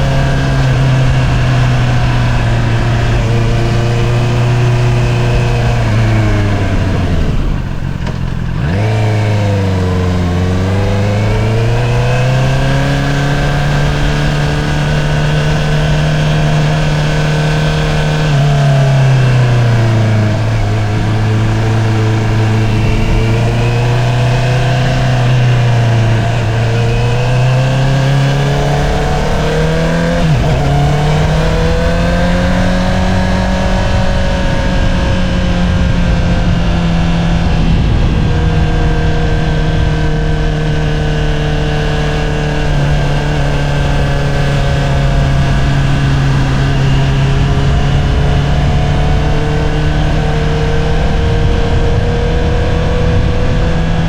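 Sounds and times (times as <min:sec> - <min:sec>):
motorcycle engine: 0:00.0 - 0:54.0
wind rush: 0:00.0 - 0:54.0.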